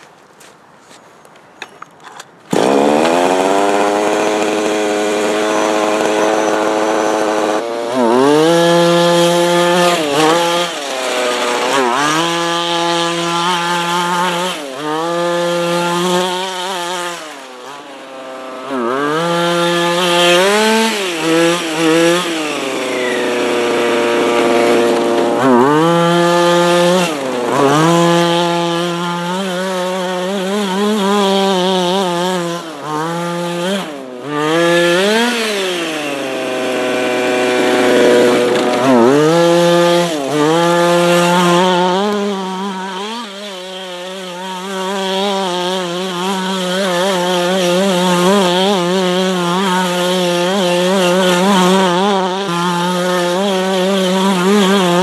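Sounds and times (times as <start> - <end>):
small two-stroke engine revving: 1.7 - 55.0.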